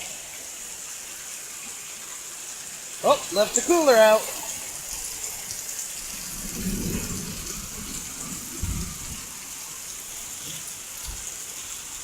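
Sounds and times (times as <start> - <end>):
torrential rain pouring: 0.0 - 12.0.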